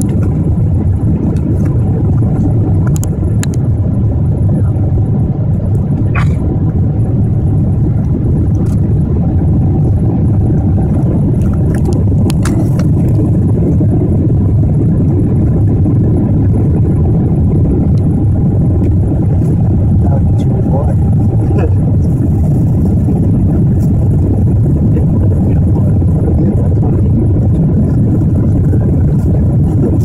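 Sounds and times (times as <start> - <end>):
jet engines rumbling in cabin: 0.0 - 30.0.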